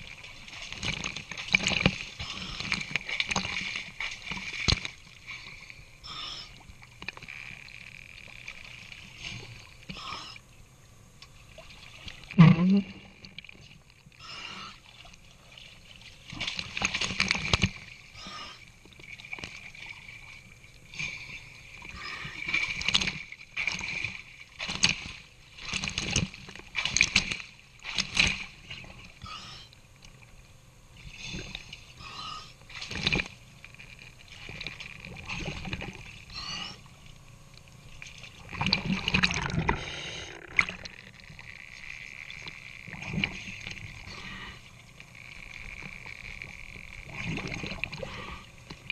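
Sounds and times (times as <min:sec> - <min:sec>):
water sloshing and splashing: 0:00.0 - 0:10.4, 0:11.2 - 0:48.9.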